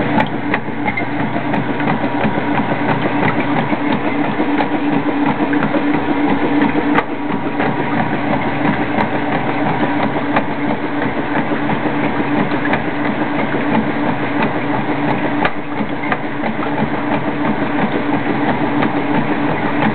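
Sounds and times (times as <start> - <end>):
washing machine running: 0.0 - 19.9.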